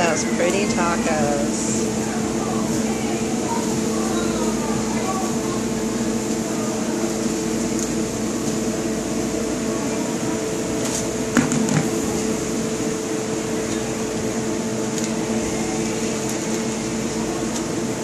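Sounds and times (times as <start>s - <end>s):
appliance fan humming: 0.0s - 18.0s.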